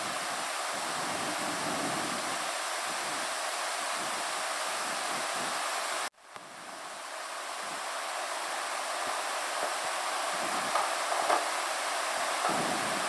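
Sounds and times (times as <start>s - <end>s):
microphone hiss: 0.0s - 13.0s.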